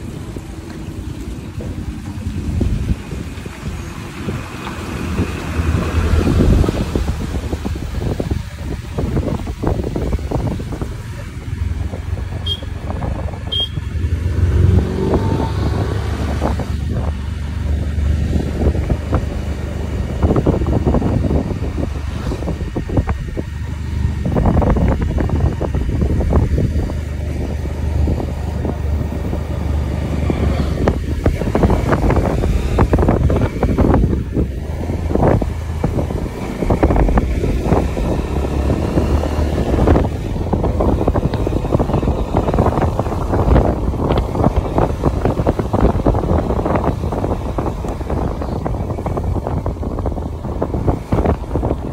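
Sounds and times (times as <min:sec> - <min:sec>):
motorcycle engine running: 0:00.0 - 0:51.9
wind over microphone: 0:00.0 - 0:51.9.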